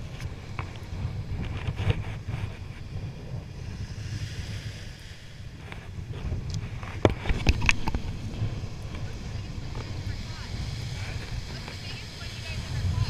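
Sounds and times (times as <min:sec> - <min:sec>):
small waves washing on beach: 0:00.0 - 0:13.0
wind buffeting microphone: 0:00.0 - 0:13.0.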